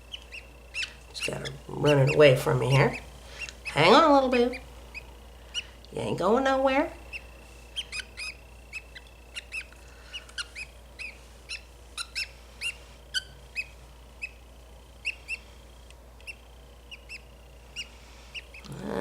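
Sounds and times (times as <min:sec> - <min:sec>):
budgerigar chirping: 0:00.0 - 0:05.8, 0:07.0 - 0:14.4, 0:15.0 - 0:15.5, 0:16.2 - 0:18.7.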